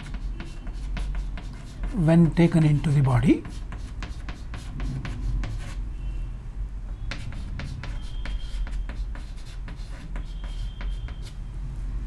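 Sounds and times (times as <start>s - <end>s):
chalk writing on chalkboard: 0.0s - 5.8s, 6.9s - 11.4s.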